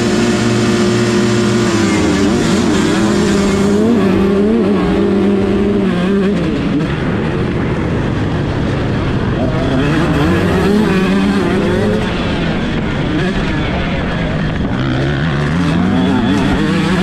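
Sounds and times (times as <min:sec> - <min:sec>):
motocross bikes accelerating: 0:00.0 - 0:17.0.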